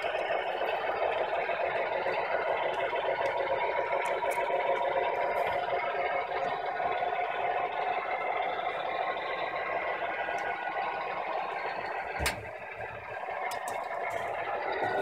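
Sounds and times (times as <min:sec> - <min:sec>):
model train diesel engine sound: 0:00.0 - 0:15.0
train wheels rolling on track: 0:00.0 - 0:15.0.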